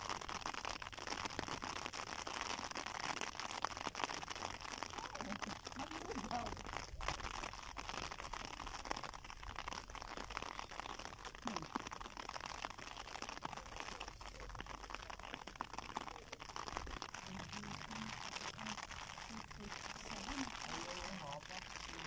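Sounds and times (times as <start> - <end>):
grass rustling: 0.0 - 22.0.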